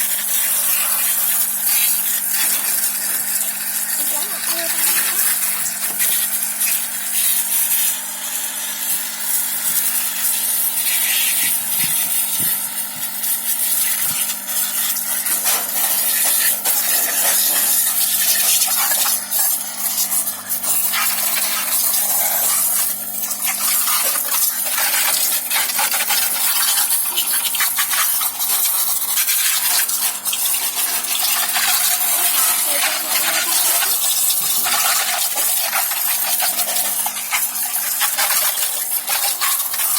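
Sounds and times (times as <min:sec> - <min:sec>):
water churning and splashing: 0:00.0 - 0:08.1, 0:10.2 - 0:39.9
washing machine hum: 0:00.0 - 0:39.9.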